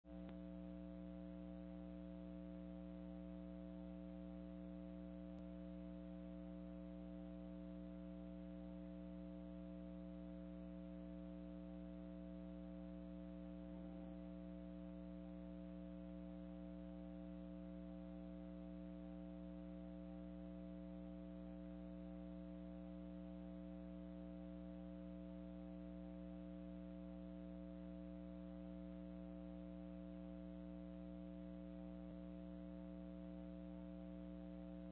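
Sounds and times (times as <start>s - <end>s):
faint electrical hum: 0.1s - 34.9s.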